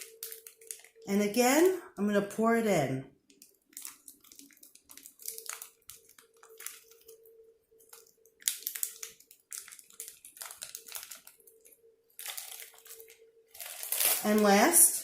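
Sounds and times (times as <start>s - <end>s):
plastic pouch crinkling: 0.0s - 1.1s, 3.2s - 15.0s.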